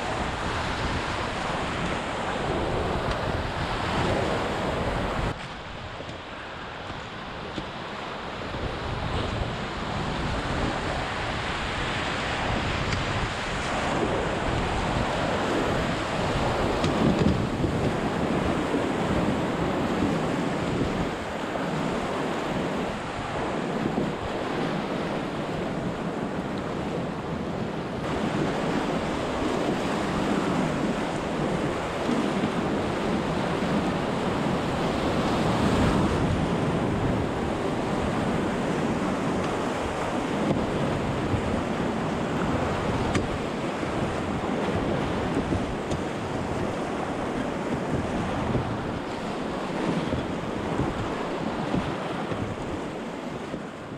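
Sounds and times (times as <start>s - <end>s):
rapids rushing and splashing: 0.0s - 53.9s
wind buffeting microphone: 0.0s - 53.9s.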